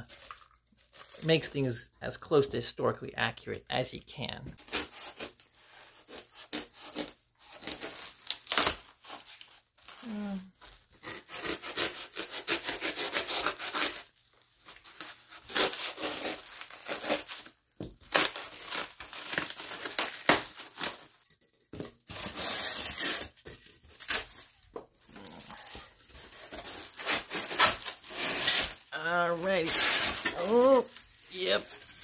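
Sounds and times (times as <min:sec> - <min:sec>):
plastic wrap crinkling and tearing: 0:00.0 - 0:01.6, 0:04.6 - 0:32.0.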